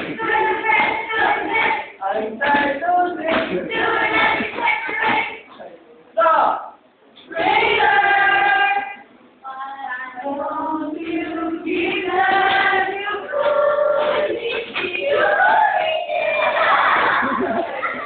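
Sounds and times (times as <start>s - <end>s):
group of women singing: 0.0s - 5.6s, 7.2s - 18.0s.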